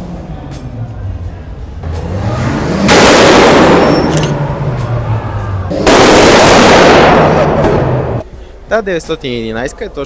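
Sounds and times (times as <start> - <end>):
car engine revving: 0.0 - 8.2
loud exhaust roar: 0.0 - 8.2.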